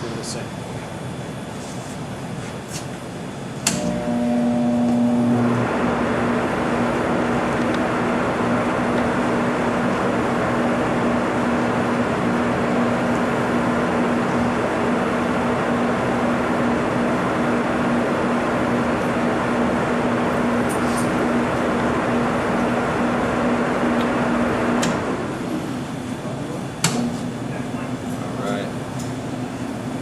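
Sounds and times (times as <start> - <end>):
refrigeration unit air rush and hum: 0.0 - 30.0.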